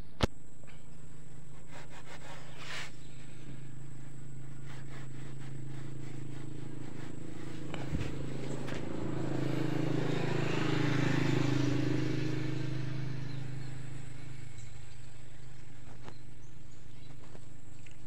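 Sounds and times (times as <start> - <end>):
engine running: 0.4 - 18.0.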